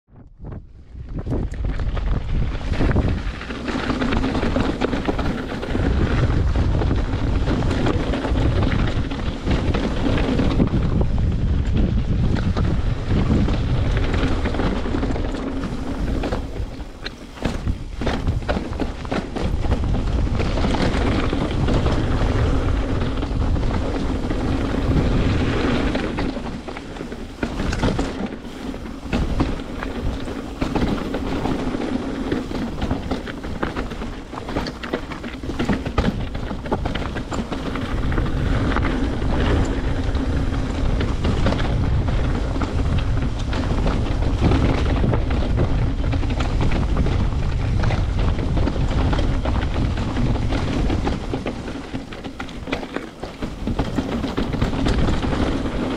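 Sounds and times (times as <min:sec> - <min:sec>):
bike tyres rolling on dirt: 0:00.1 - 0:55.9
wind rushing over microphone: 0:00.1 - 0:55.9
bike knocks and rattles: 0:00.4 - 0:55.9.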